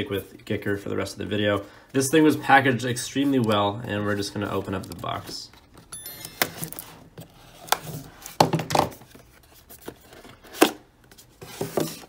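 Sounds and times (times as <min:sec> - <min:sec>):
cardboard packaging rustling: 0:01.5 - 0:12.0.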